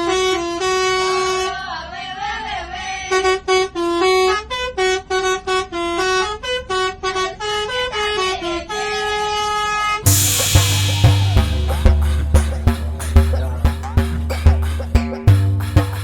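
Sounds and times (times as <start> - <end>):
multi-tone air horn tune: 0.0 - 1.7, 3.1 - 16.0.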